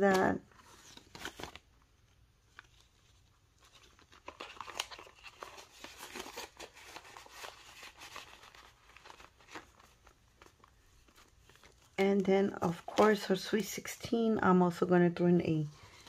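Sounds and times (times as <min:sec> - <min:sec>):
banknotes rustling: 0:00.0 - 0:13.9.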